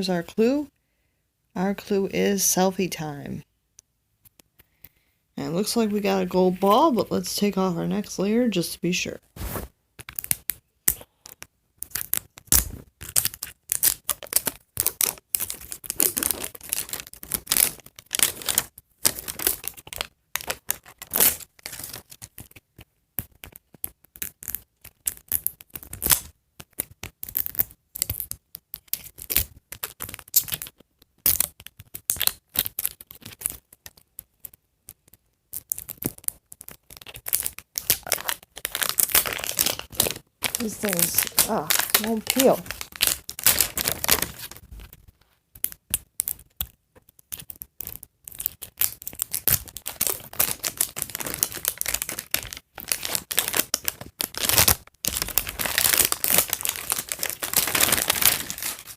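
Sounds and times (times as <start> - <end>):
plastic wrapper crinkling and tearing: 9.4 - 58.9.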